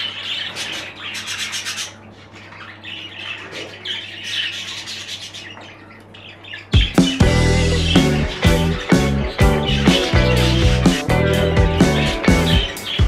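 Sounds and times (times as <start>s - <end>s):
budgerigars chirping and warbling: 0.0s - 13.0s.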